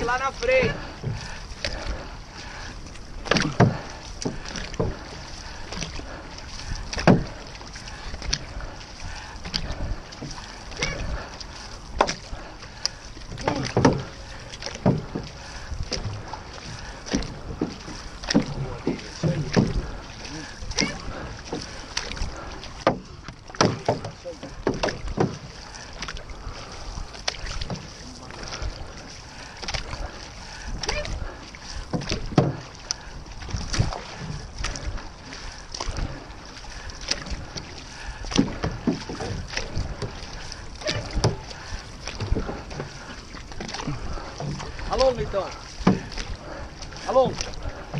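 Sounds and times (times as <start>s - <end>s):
paddles splashing through water: 0.0s - 47.9s.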